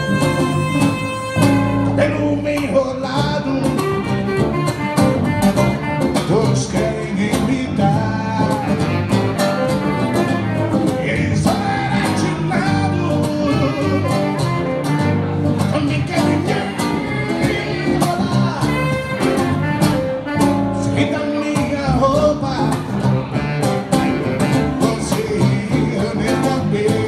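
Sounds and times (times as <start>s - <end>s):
bass guitar: 0.0s - 27.0s
guitar: 0.0s - 27.0s
saxophone: 0.0s - 27.0s.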